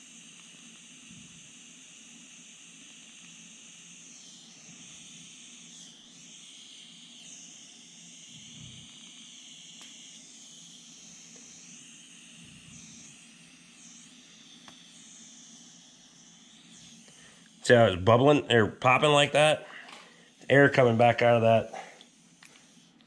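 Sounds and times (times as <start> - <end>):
torch flame hissing: 0.0 - 23.0.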